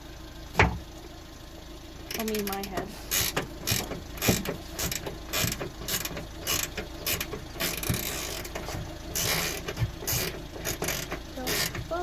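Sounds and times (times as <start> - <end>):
ratchet spanner clicking: 2.1 - 12.0.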